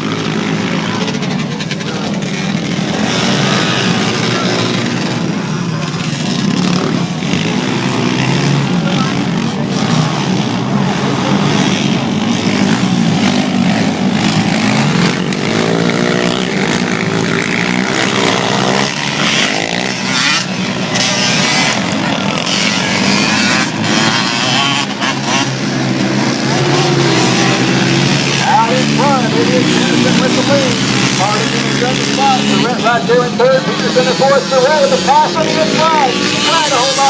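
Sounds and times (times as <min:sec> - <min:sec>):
racing atv engines revving: 0:00.0 - 0:37.0.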